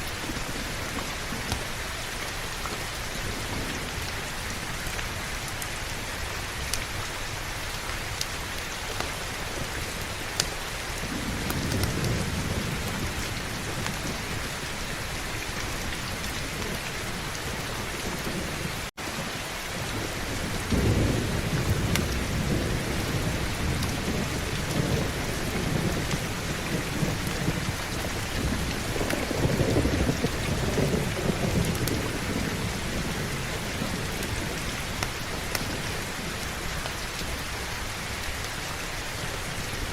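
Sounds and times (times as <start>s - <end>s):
thunder rumbling: 0.0s - 7.8s, 8.4s - 38.4s
heavy rain: 0.0s - 39.9s.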